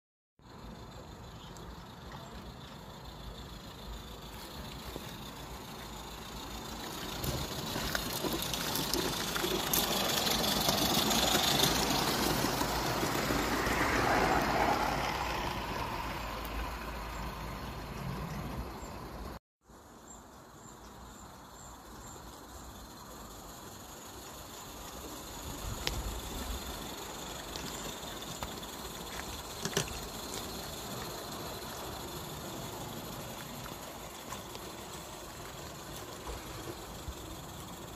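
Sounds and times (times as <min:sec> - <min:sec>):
wheels clicking on track: 0:00.4 - 0:19.4, 0:21.4 - 0:37.9.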